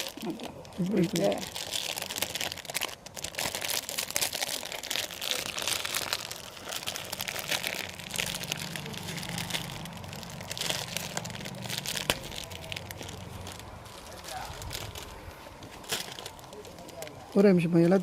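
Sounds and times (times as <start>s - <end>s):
sheet rustling and crinkling: 0.0s - 18.0s.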